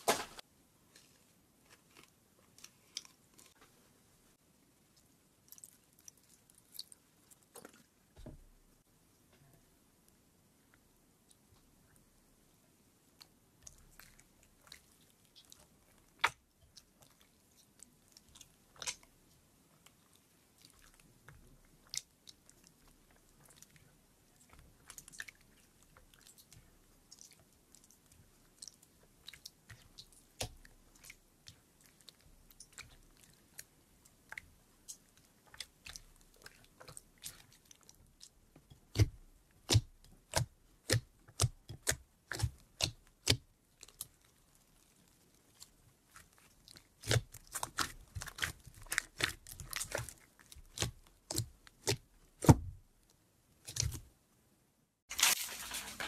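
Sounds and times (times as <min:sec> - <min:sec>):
sticky slime squelches: 0:00.0 - 0:04.0, 0:04.6 - 0:09.3, 0:10.0 - 0:54.2.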